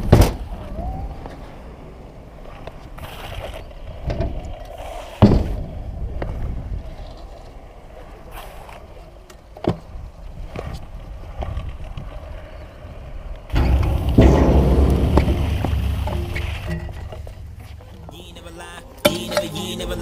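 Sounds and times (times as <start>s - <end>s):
scooter wheels rolling on concrete: 0.0s - 20.0s.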